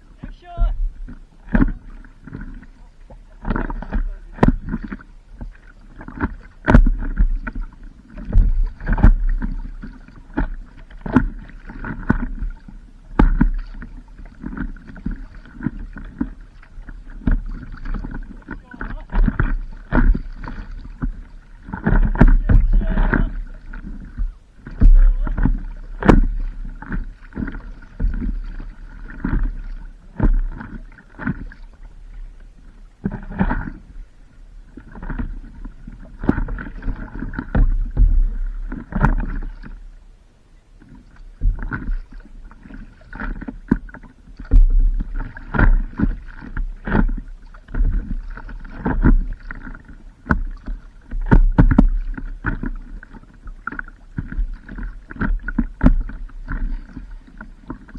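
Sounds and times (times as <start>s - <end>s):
paddle splashing water: 0.0s - 57.9s.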